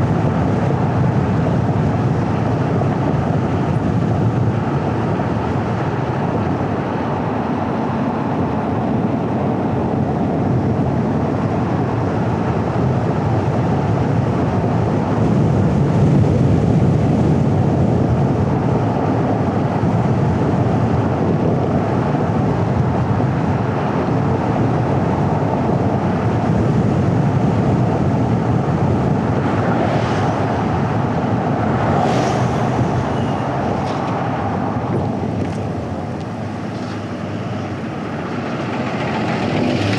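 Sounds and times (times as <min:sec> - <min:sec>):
car road and traffic rumble: 0:00.0 - 0:39.9.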